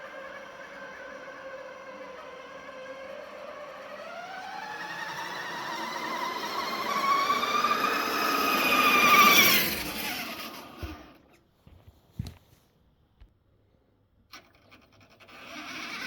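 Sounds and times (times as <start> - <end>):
toy truck electric motor whining: 0.0 - 11.3, 14.3 - 16.0.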